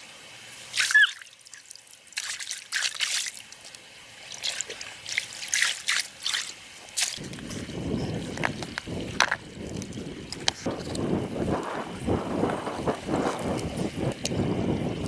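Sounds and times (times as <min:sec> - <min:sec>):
water splashing and dribbling: 0:00.0 - 0:15.0.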